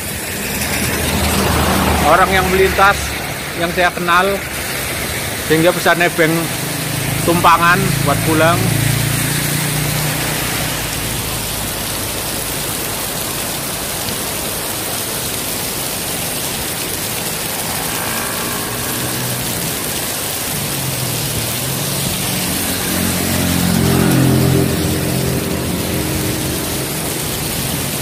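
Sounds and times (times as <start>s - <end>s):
heavy rain pouring: 0.0s - 28.0s
passing vehicle engine: 0.0s - 28.0s.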